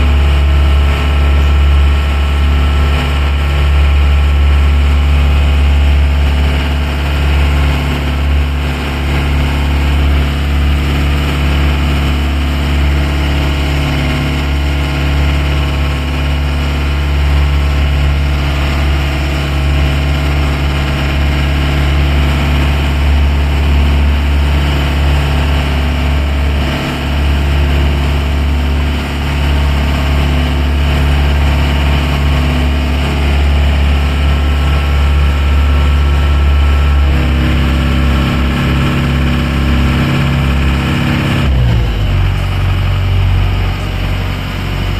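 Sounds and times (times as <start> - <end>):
boat engine deep hum: 0.0 - 44.9.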